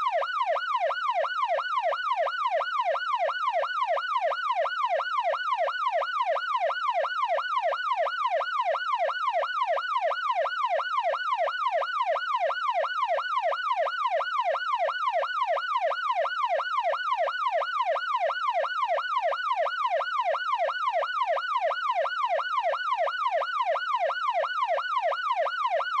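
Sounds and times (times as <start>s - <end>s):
police siren yelping: 0.0s - 26.0s.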